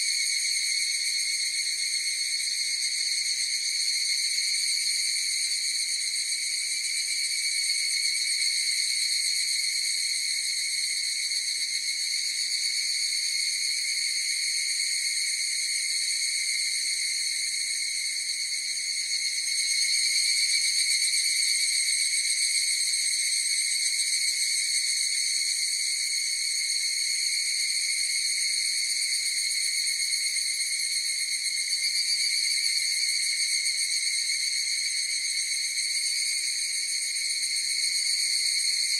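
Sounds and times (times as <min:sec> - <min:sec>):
cicadas droning: 0:00.0 - 0:38.9.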